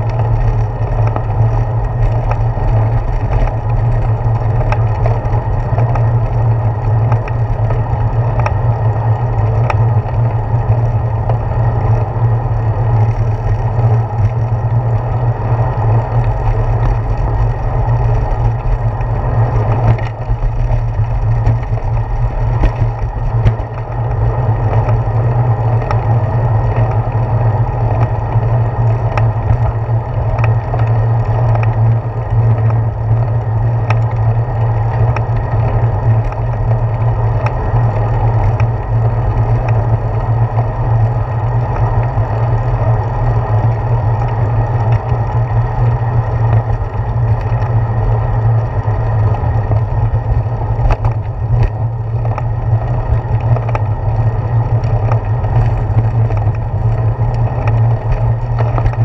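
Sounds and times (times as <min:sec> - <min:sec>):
bicycle clicks and rattles: 0:00.0 - 0:59.0
wind and road rumble: 0:00.0 - 0:59.0.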